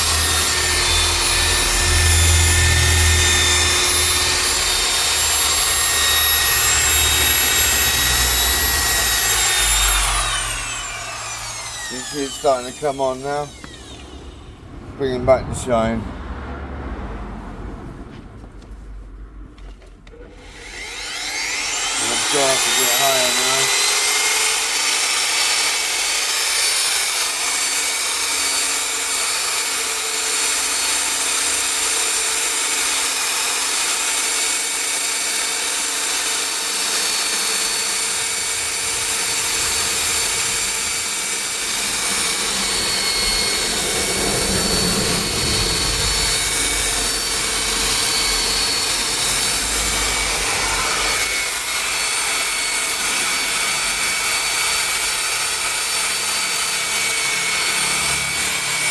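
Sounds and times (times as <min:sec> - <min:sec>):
machine polisher whining: 0:00.0 - 0:15.7, 0:20.1 - 0:58.9.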